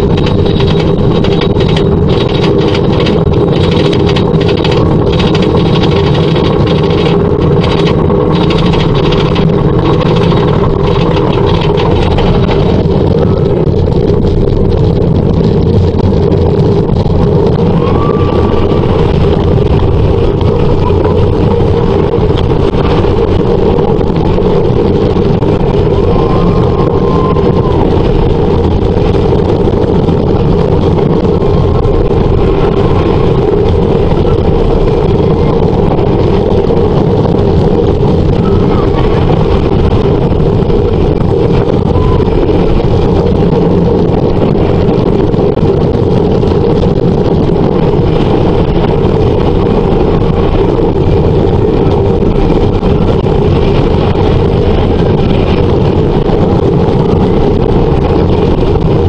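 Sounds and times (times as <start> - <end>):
roller coaster rumbling on track: 0.0 - 59.0
wind on microphone: 0.0 - 59.0.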